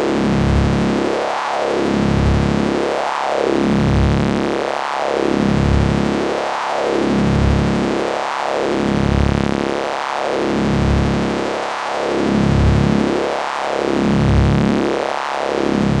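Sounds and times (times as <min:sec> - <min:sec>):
sweeping electric buzz: 0:00.0 - 0:16.0.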